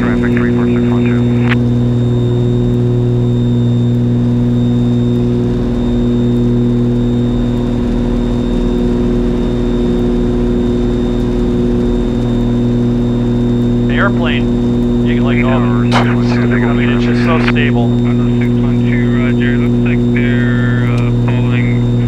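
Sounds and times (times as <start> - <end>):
propeller aircraft engines droning: 0.0 - 22.0.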